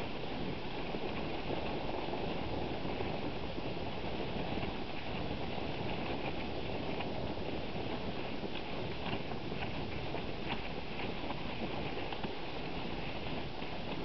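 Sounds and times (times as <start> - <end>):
dog paws churning snow: 0.0 - 14.0
sled runners hissing on snow: 0.0 - 14.0.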